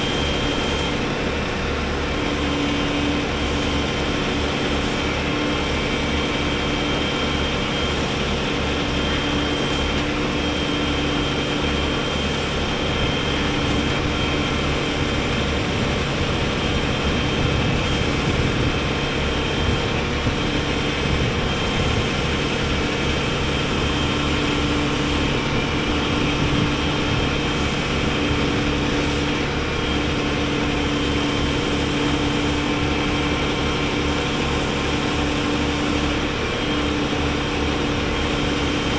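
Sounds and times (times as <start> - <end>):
diesel engine running: 0.0 - 38.9
hydraulic whine: 0.0 - 38.9.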